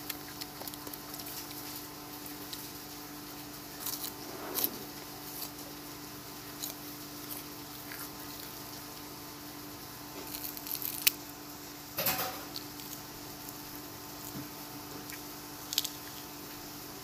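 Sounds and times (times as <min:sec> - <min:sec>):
crisp food crunching: 0:00.0 - 0:17.0.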